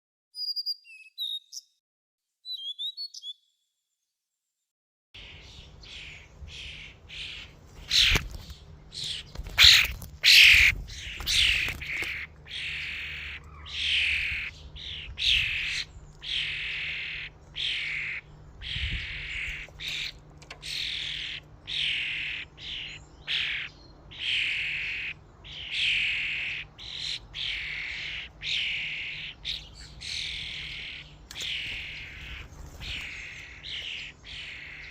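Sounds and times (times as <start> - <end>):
starlings calling: 5.2 - 34.9.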